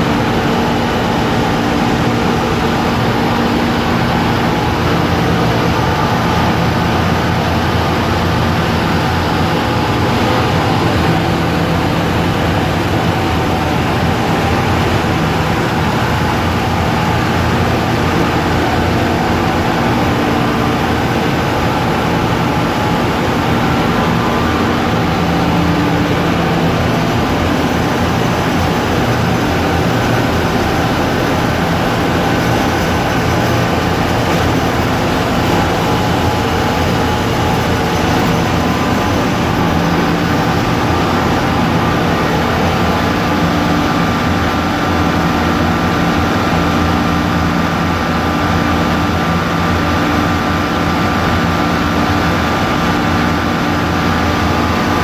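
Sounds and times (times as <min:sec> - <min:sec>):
engine room machinery roar: 0:00.0 - 0:55.0.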